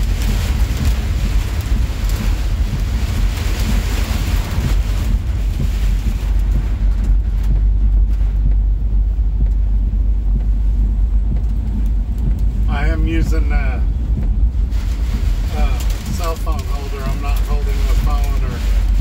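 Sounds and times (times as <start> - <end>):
heavy rain on windshield: 0.0 - 19.0
truck rumbling on road: 0.0 - 19.0.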